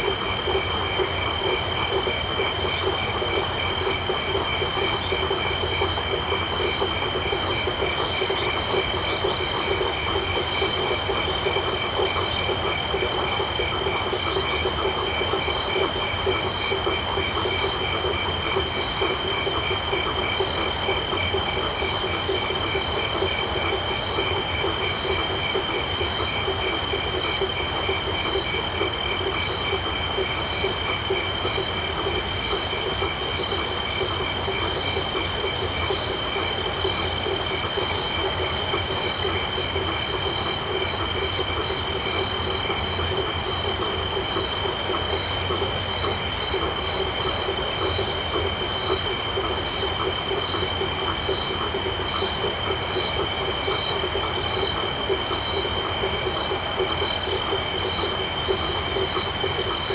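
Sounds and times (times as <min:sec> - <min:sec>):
crickets trilling: 0:00.0 - 0:59.9
frogs calling in rapid pulses: 0:00.0 - 0:59.9.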